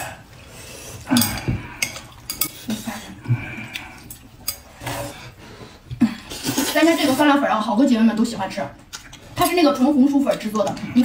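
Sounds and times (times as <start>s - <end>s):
utensils clinking and scraping a bowl: 0.3s - 7.7s, 8.9s - 11.0s.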